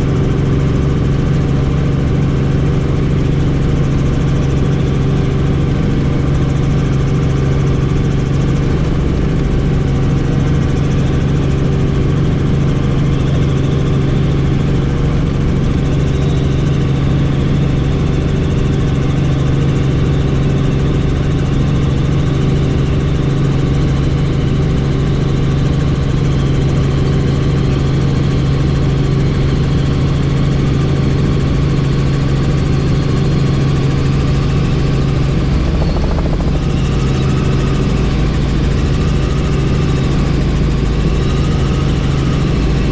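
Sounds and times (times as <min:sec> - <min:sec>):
helicopter turbine and rotors droning: 0:00.0 - 0:42.9.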